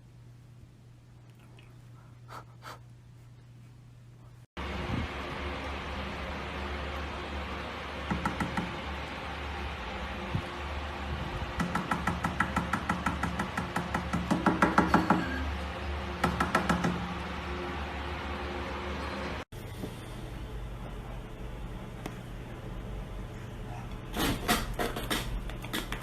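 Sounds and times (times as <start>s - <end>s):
steady low hum: 0.0s - 12.2s, 17.0s - 26.0s.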